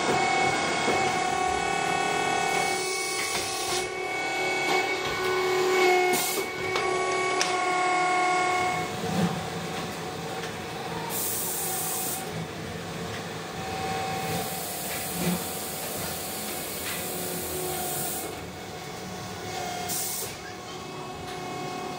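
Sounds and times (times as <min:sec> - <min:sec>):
factory machinery hum: 0:00.0 - 0:21.9.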